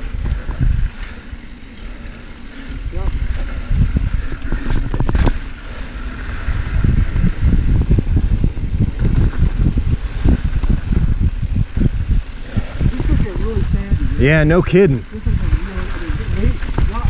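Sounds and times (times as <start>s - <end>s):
bike rattling and knocking: 0.0s - 17.0s
wind buffeting microphone: 0.0s - 17.0s.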